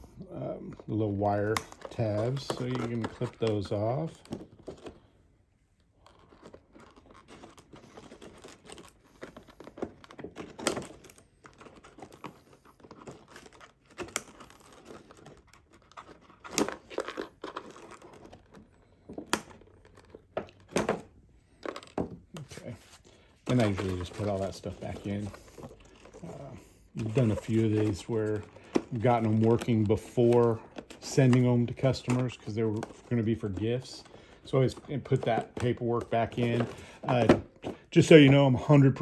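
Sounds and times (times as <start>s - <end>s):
packaging rustling and crinkling: 0.0s - 39.0s.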